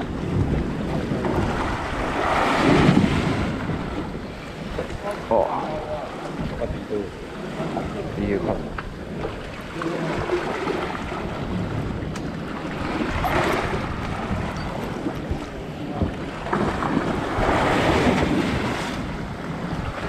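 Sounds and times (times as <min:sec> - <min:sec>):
sea surf washing: 0:00.0 - 0:20.0
wind buffeting microphone: 0:00.0 - 0:20.0.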